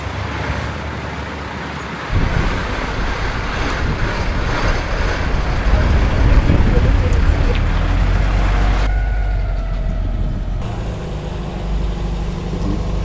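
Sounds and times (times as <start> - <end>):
vehicle hiss and rumble: 0.0 - 13.0.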